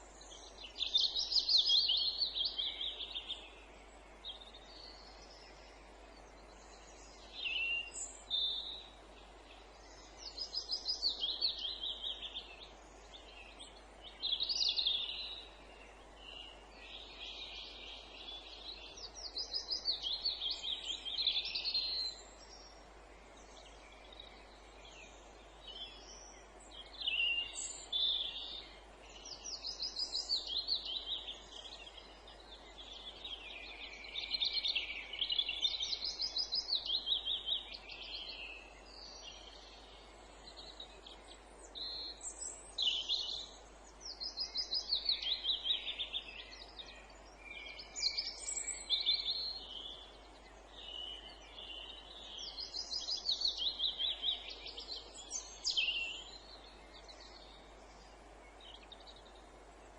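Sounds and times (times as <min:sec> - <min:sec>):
faint steady hiss: 0:00.0 - 0:59.9
songbirds trilling: 0:00.0 - 0:59.9.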